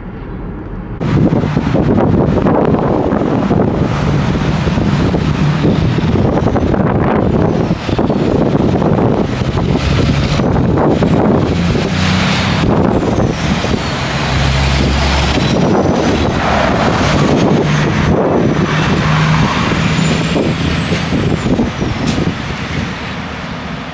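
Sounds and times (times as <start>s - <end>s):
diesel truck engine under load: 0.0s - 23.9s.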